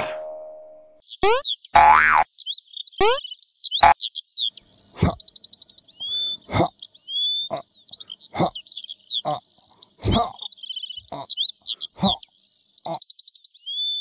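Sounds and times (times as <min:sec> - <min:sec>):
high bird-like chirps and trills: 0:00.0 - 0:14.0.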